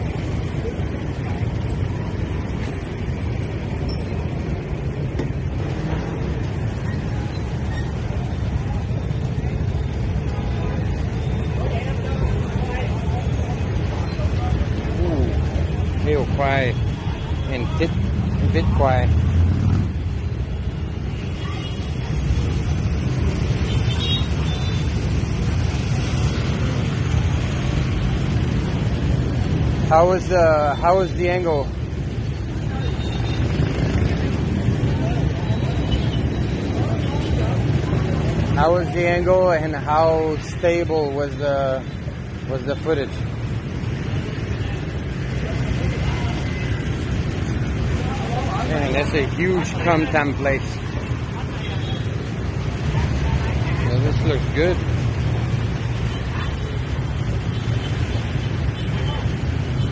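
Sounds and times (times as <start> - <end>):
scooters and motorbikes rumbling: 0.0 - 59.9.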